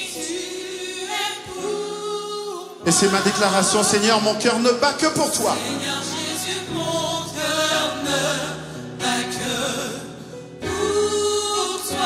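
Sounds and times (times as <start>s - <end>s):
gospel choir singing: 0.0s - 12.0s.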